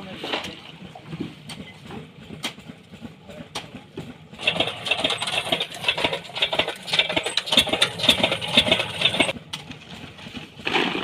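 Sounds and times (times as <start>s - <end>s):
engine rattling clatter: 0.0s - 11.0s.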